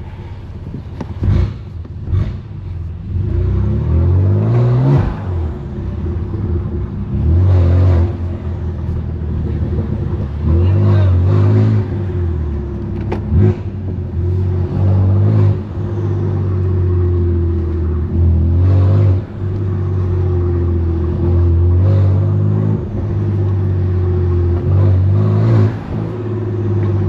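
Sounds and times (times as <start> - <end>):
car exhaust droning while driving: 0.0 - 27.0.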